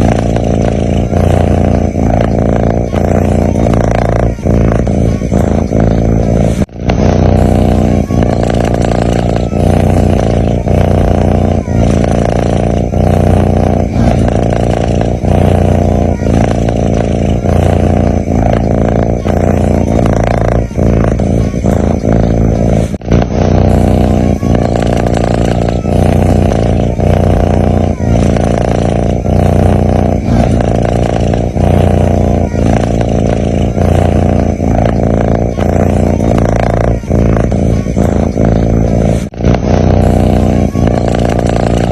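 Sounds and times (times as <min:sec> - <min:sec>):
cat snoring: 0:00.0 - 0:41.9.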